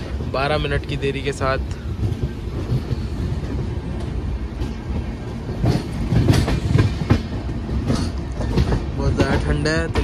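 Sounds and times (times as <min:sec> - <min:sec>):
train coaches rumbling: 0:00.0 - 0:10.0
wheel clacks over rail joints: 0:00.0 - 0:10.0.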